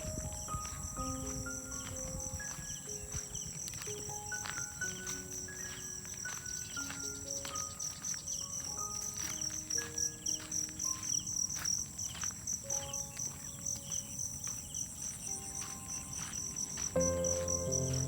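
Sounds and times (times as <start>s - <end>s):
crickets chirping: 0.0s - 18.0s
faint sustained music notes: 0.0s - 18.0s.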